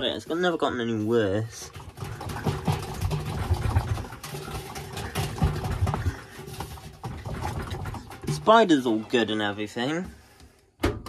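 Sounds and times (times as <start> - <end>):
washing machine bearings growling: 0.0 - 10.4.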